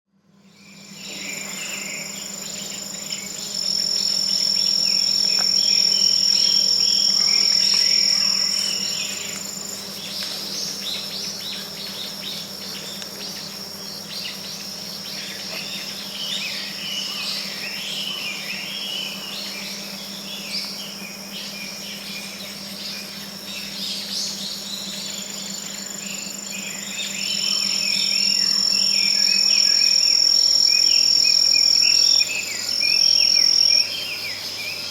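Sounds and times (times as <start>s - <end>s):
insects trilling: 0.3s - 34.9s.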